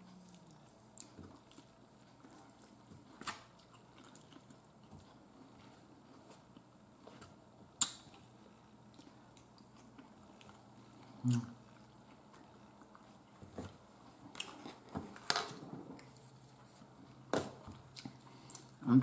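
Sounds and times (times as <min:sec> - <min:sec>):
person chewing: 0:00.0 - 0:14.9, 0:17.7 - 0:18.8.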